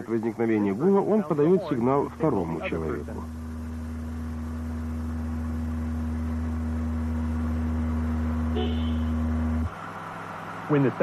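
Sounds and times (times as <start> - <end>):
car driveline droning hum: 0.0 - 11.0
higher steady tone: 0.1 - 9.7.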